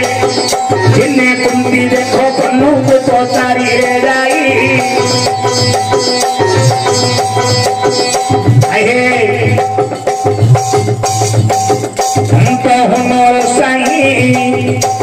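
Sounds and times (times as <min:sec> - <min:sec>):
hand drum beating: 0:00.0 - 0:15.0.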